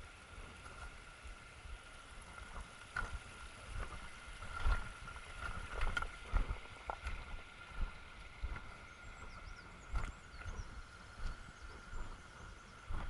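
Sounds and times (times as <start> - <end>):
wind rumble on microphone: 0.0 - 13.0
footsteps on a trail: 2.5 - 13.0.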